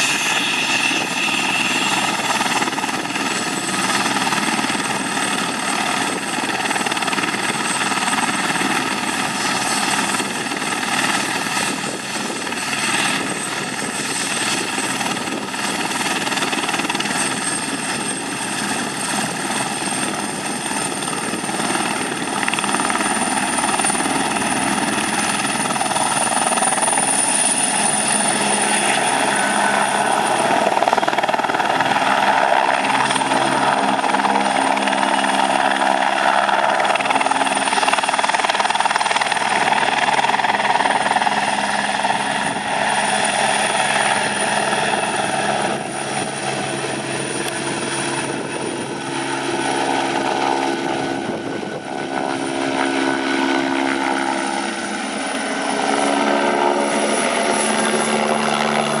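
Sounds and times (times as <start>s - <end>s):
helicopter rotor: 0.0s - 59.0s
high turbine whine: 0.0s - 59.0s.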